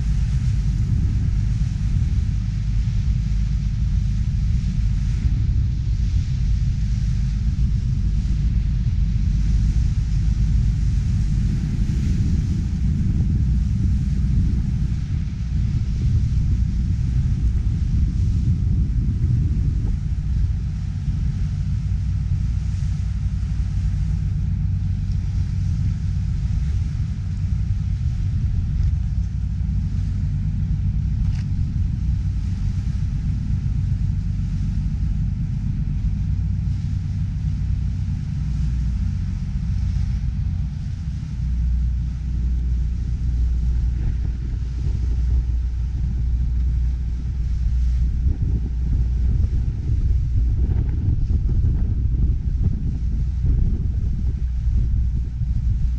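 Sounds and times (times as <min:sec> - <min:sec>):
ferry engine rumbling: 0:00.0 - 0:55.9.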